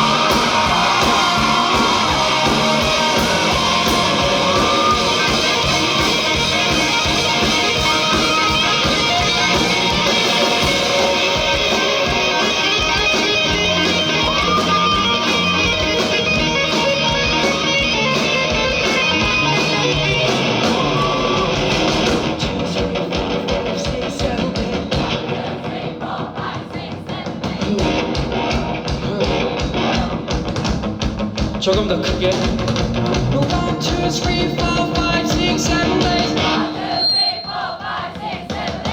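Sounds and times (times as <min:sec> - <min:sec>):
live rock band playing: 0:00.0 - 0:25.5, 0:27.6 - 0:37.2.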